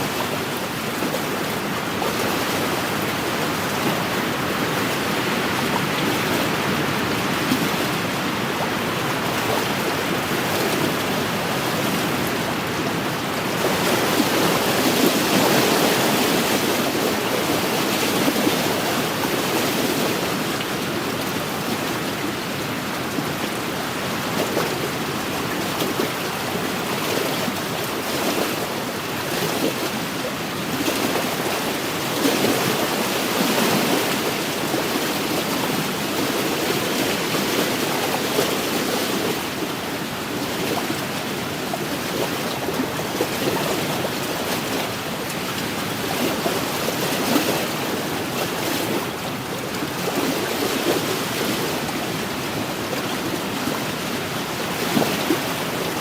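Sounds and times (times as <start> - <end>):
waves washing against shore: 0.0 - 56.0.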